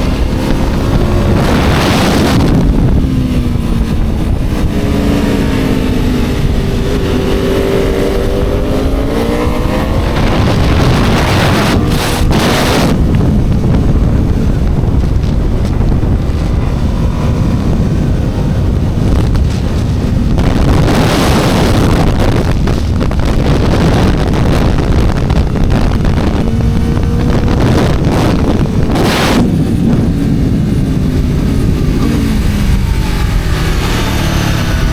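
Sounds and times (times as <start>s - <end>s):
motorcycle engine at speed: 0.0s - 34.9s
wind noise on microphone: 0.0s - 34.9s.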